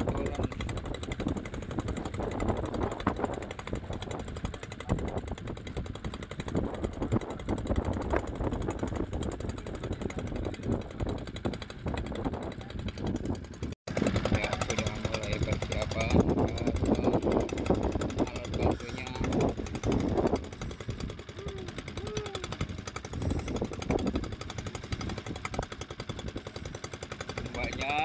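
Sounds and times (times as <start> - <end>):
petrol engine air compressor running: 0.0 - 28.0.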